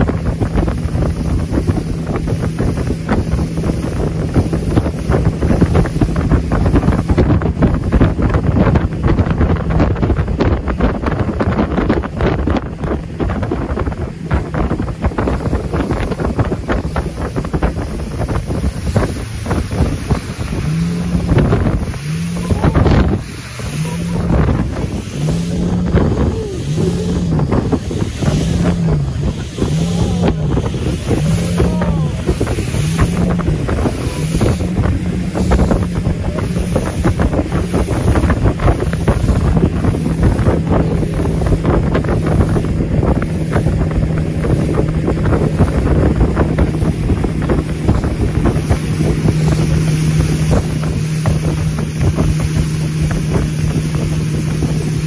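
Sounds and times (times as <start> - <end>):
motorboat motor humming: 0.0 - 55.0
water rushing along hull: 0.0 - 55.0
wind buffeting microphone: 0.0 - 55.0.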